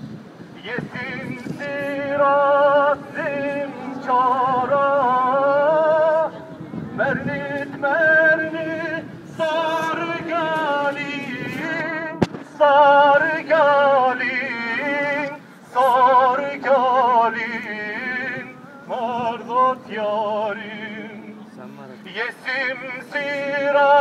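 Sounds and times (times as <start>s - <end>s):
man singing folk melody: 0.6s - 21.4s, 22.0s - 24.0s.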